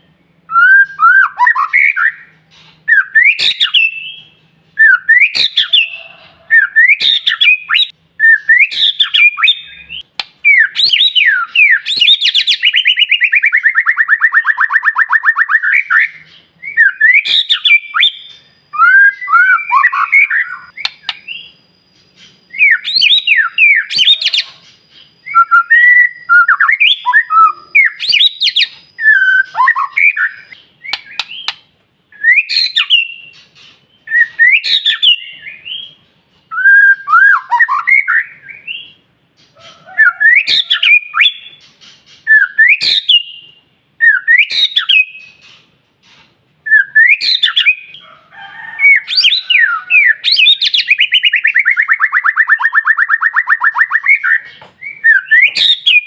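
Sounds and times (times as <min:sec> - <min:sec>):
songbird singing whistled phrases: 0:00.0 - 0:45.6, 0:46.6 - 0:56.0.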